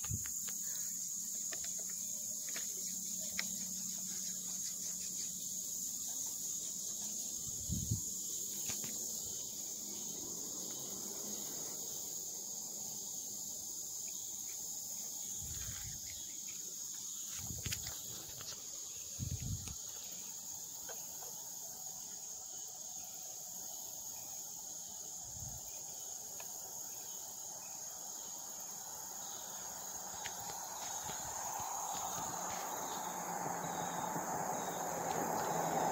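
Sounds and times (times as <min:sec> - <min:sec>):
insects buzzing: 0:00.0 - 0:35.9.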